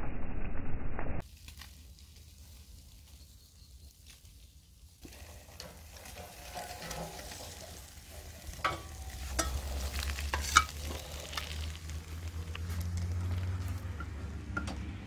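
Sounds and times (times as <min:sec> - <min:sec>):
fish sizzling on a grill: 0:01.2 - 0:14.4.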